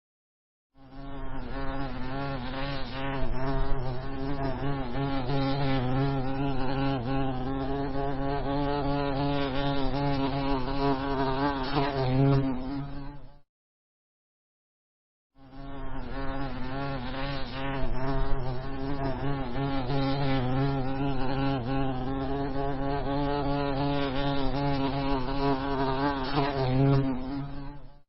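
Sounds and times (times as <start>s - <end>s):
honey bees buzzing: 0.8s - 12.7s, 15.4s - 27.3s.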